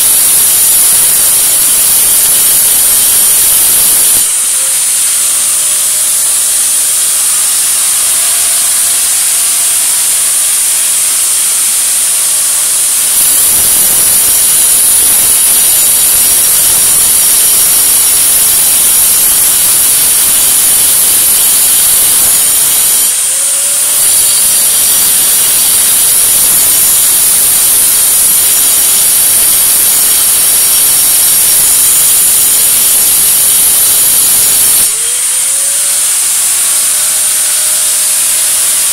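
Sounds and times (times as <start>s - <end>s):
electric grinder hissing: 0.0s - 38.9s.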